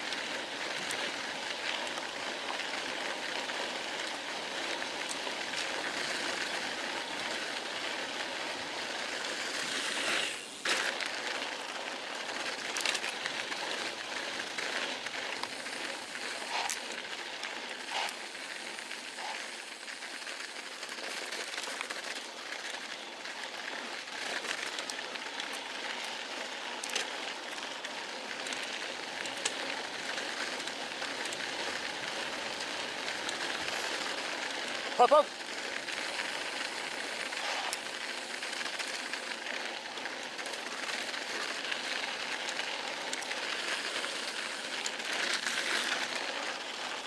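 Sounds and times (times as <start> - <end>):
light ticks of raindrops: 0.0 - 47.0
rain hissing: 0.1 - 21.6, 22.2 - 47.0.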